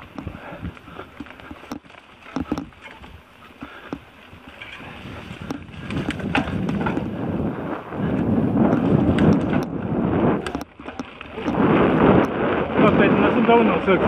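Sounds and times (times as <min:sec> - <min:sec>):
bike knocks and rattles: 0:00.0 - 0:13.6
wind and tyres rushing: 0:00.0 - 0:14.0.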